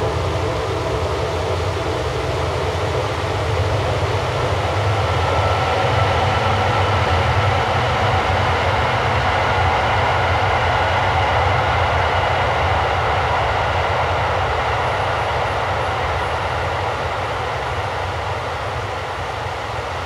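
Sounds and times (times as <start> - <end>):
rumbling hissing soundscape: 0.0 - 20.0.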